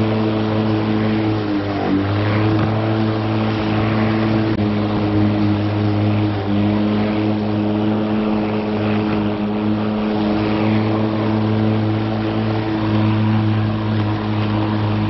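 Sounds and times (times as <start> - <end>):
electric lawn mower running: 0.0 - 15.0.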